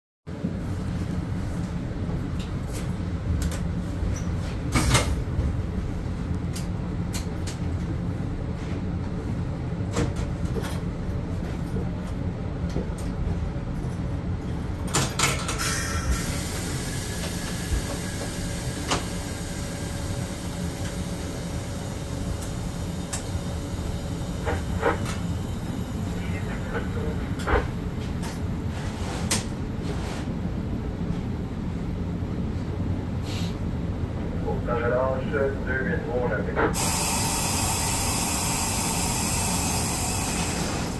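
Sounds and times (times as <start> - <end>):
train car rumble: 0.3 - 40.9.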